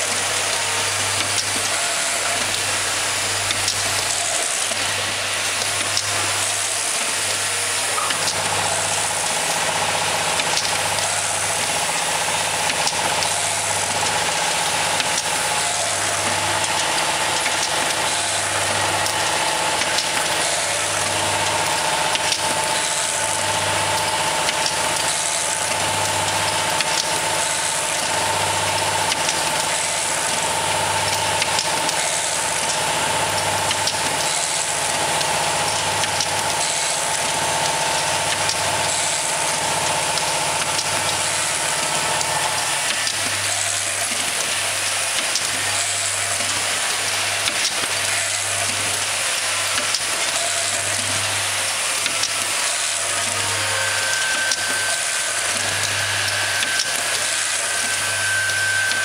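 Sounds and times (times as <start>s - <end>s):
machine whirring and hissing: 0.0s - 59.0s.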